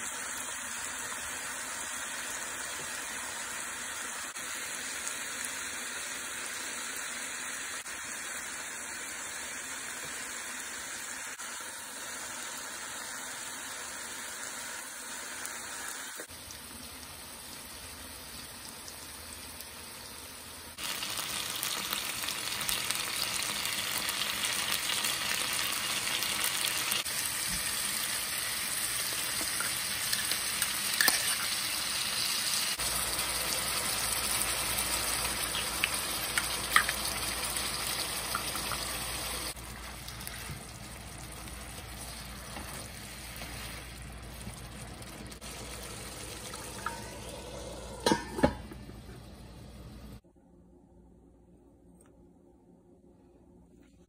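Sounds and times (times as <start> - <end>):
chicken sizzling in hot oil: 0.0 - 50.1.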